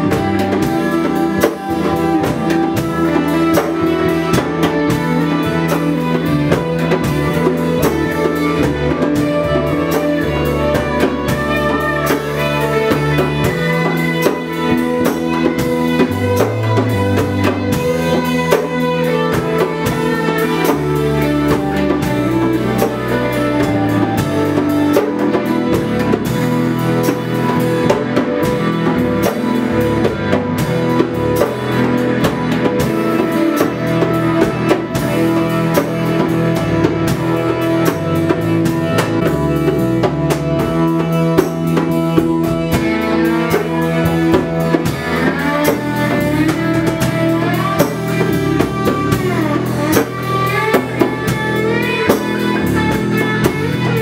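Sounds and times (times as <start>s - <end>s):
band music: 0.0s - 54.0s
drum kit beat: 0.0s - 54.0s
gliding notes: 0.0s - 54.0s.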